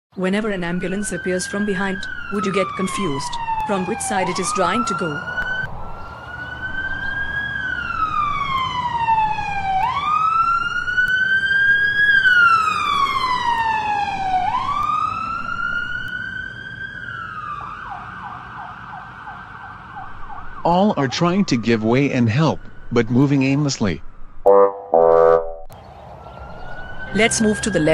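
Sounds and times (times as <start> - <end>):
siren rapid yelp: 0.2 - 23.6, 24.5 - 25.7, 26.4 - 27.9
ambulance siren wailing: 0.2 - 23.8, 24.5 - 27.9.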